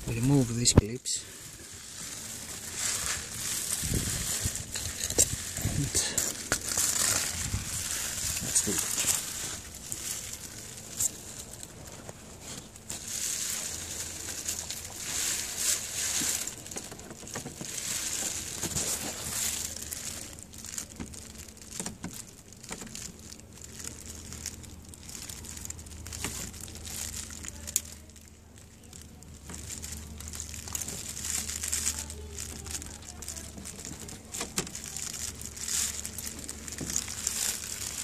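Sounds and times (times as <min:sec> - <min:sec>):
plastic rustling and scraping: 0:00.0 - 0:38.0.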